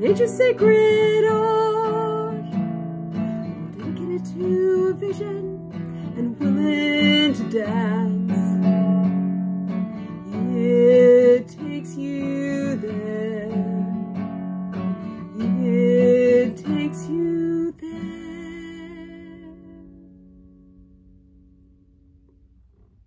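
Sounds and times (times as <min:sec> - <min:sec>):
acoustic guitar strumming: 0:00.0 - 0:22.9.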